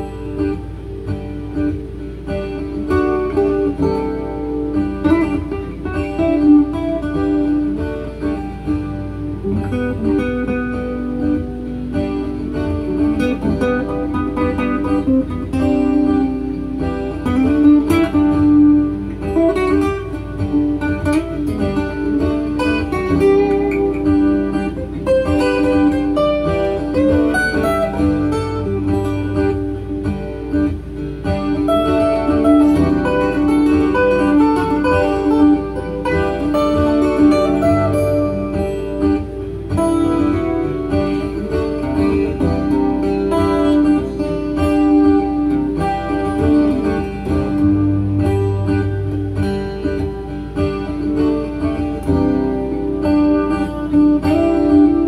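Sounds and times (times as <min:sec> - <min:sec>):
acoustic guitar picked and strummed: 0:00.0 - 0:55.0
looped guitar layers: 0:00.0 - 0:55.0.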